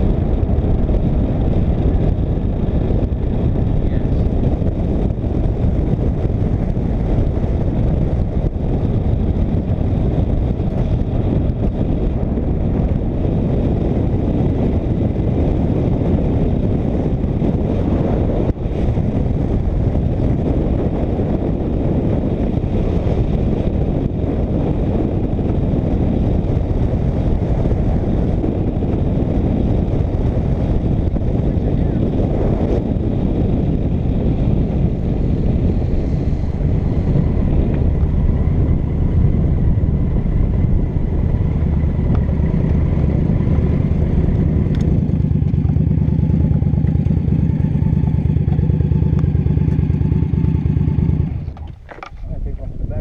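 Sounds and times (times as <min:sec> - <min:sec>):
motorcycle engine and road noise: 0:00.0 - 0:53.0
wind over microphone: 0:00.0 - 0:53.0.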